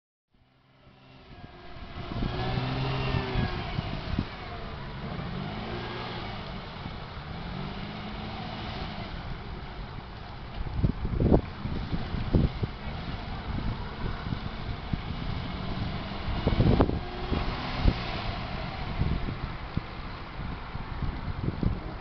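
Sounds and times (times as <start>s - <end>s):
truck engine revving: 0.7s - 10.0s, 10.8s - 20.5s.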